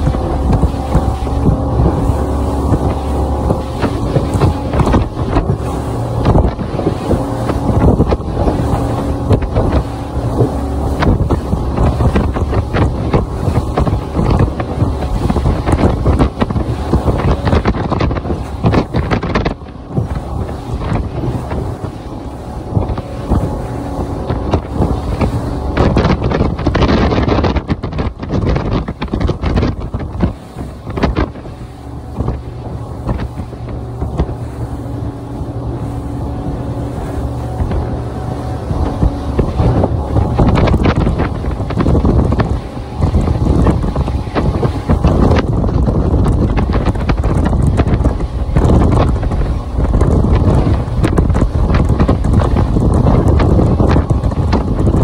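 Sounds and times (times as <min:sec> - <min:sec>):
outboard motor drone: 0:00.0 - 0:55.0
spray splashing off hull: 0:00.0 - 0:55.0
wind buffeting microphone: 0:00.0 - 0:55.0.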